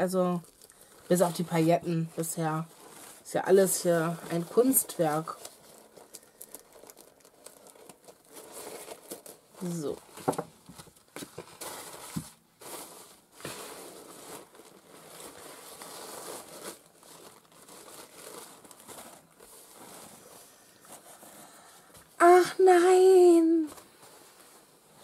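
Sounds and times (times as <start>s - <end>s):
tissue paper rustling and crinkling: 0.0s - 25.0s.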